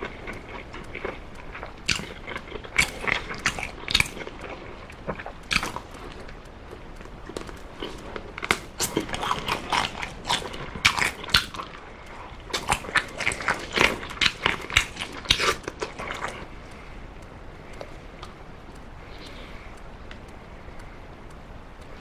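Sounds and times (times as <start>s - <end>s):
chewing and biting mouth clicks: 0.0s - 20.9s.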